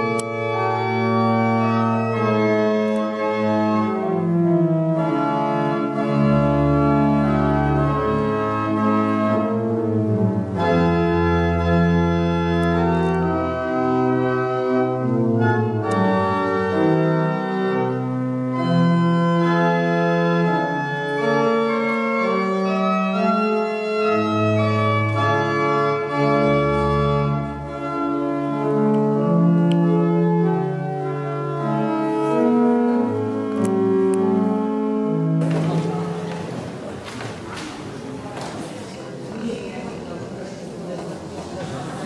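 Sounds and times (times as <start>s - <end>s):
church organ sustained chords: 0.0s - 37.4s.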